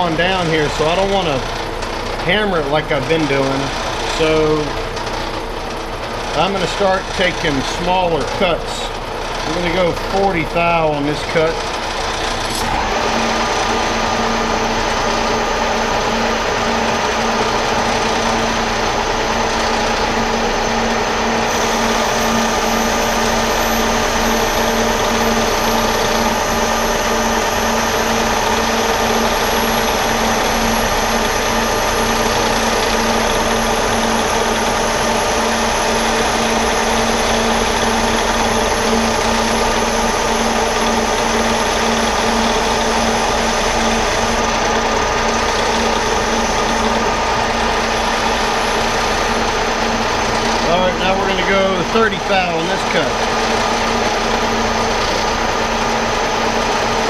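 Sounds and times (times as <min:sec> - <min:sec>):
metal lathe humming: 0:00.0 - 0:57.0.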